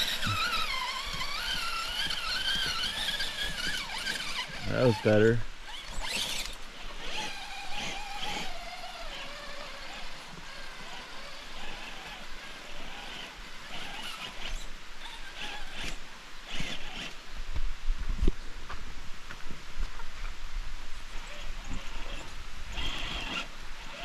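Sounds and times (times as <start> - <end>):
electric motors whining: 0.0 - 17.2, 21.1 - 24.0.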